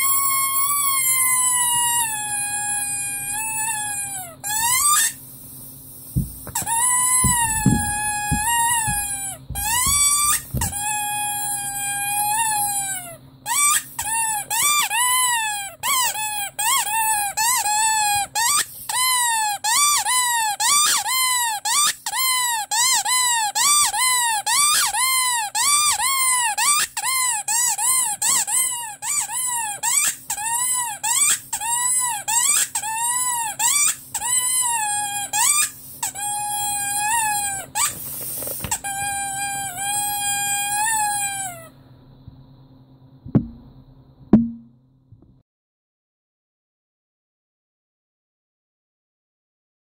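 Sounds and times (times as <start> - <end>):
rubber squeaky toy squeaking: 0.0 - 5.2, 6.2 - 41.7.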